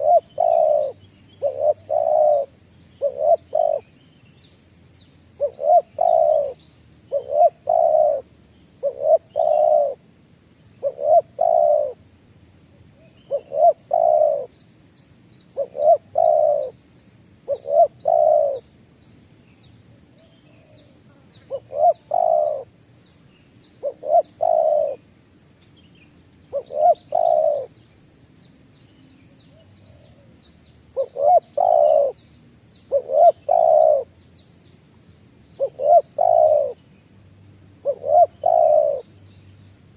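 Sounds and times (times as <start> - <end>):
bird chirping high and faint: 0.0 - 10.0, 13.0 - 25.0, 25.8 - 37.1, 37.8 - 39.8
bird calling in low phrases: 0.0 - 10.1, 10.7 - 12.1, 12.7 - 25.2, 26.0 - 34.6, 35.5 - 36.9, 37.7 - 39.8.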